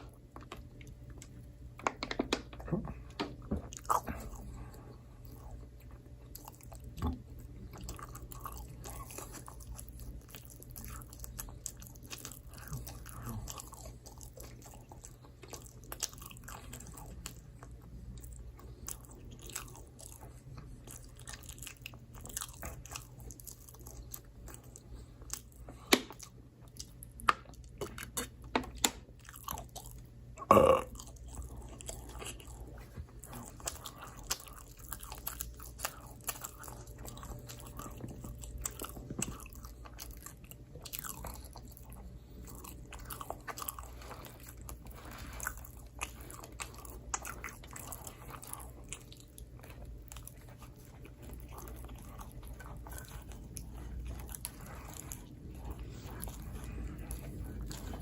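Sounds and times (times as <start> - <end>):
close chewing and crunching: 0.0 - 58.0.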